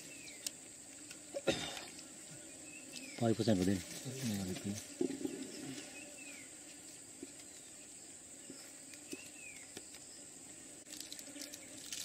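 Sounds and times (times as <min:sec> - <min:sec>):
insect drone: 0:00.0 - 0:12.0.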